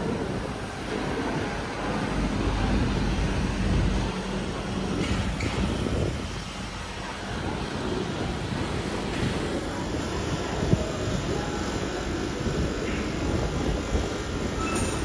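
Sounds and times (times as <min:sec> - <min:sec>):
crowd murmur: 0:00.0 - 0:15.0.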